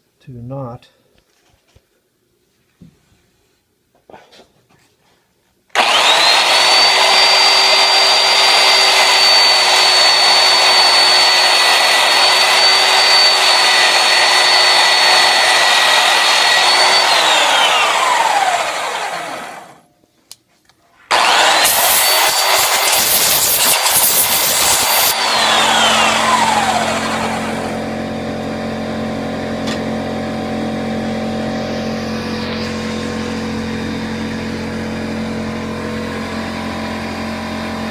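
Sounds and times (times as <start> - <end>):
belt sander motor whining: 5.7 - 19.8, 21.1 - 37.9.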